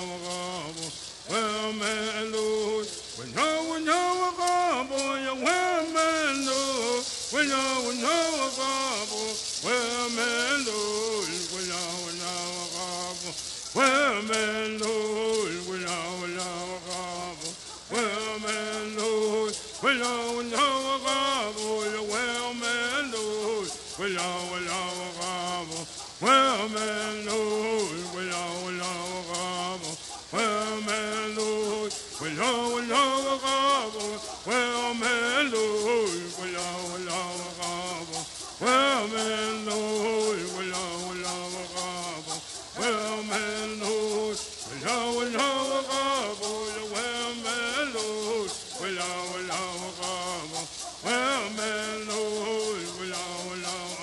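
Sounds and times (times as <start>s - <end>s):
gourd rattles shaking: 0.0s - 54.0s
men chanting: 0.0s - 54.0s.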